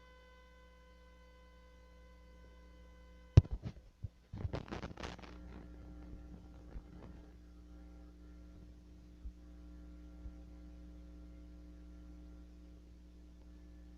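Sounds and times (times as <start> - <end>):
mains hum: 0.0 - 13.9.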